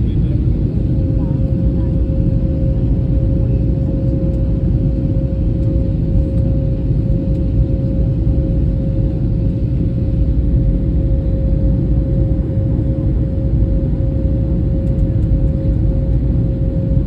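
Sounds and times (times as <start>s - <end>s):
airliner engine rumble: 0.0s - 17.0s
mid-pitched hum: 0.0s - 17.0s.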